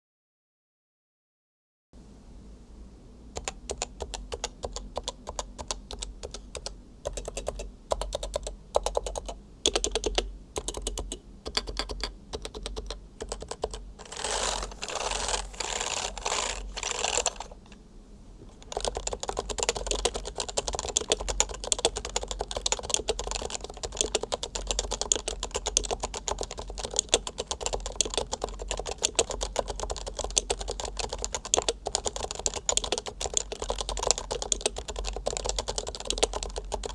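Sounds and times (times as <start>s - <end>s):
typing on keyboard: 3.4s - 17.5s, 18.6s - 36.9s.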